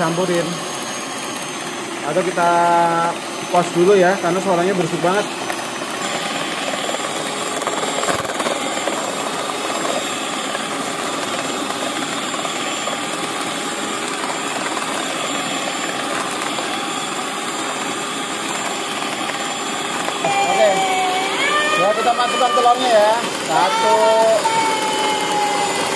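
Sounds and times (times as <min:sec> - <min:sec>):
electric hand mixer whirring: 0:00.0 - 0:25.9.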